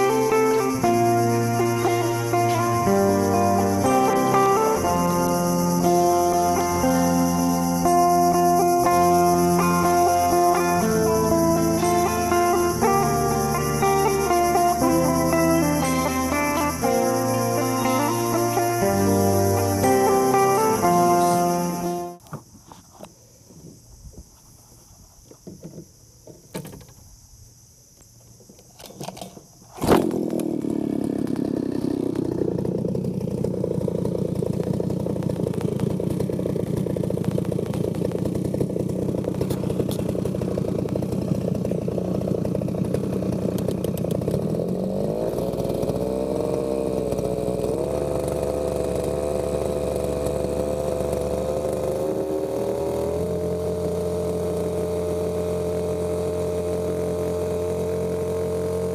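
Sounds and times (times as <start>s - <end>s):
outboard motor running: 0.0s - 22.4s, 29.8s - 58.9s.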